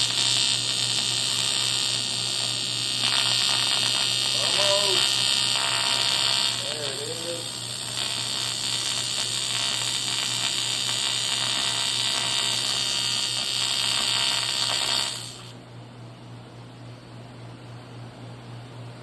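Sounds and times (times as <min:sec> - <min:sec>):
welder humming: 0:00.0 - 0:15.6
welding arc buzzing: 0:00.0 - 0:15.6.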